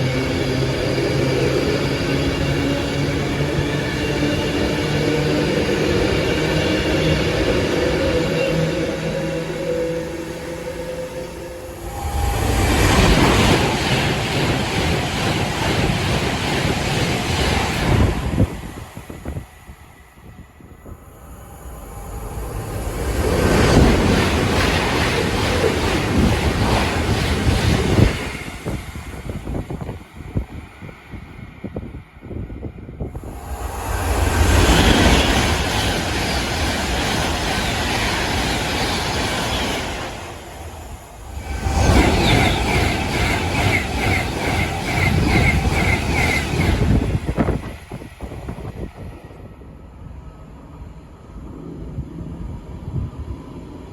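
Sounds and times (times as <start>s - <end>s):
train passing: 0.0s - 53.9s.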